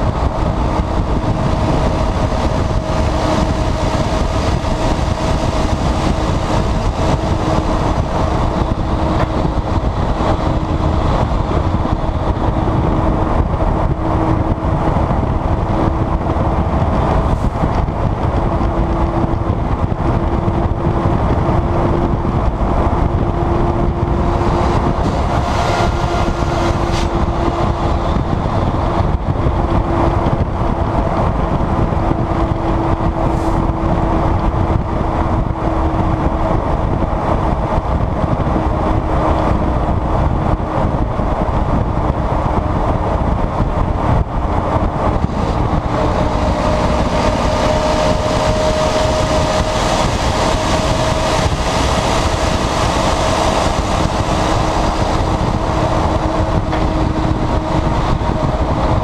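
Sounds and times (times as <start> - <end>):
road and wind rumble: 0.0 - 59.0
truck diesel engine drone: 0.0 - 59.0.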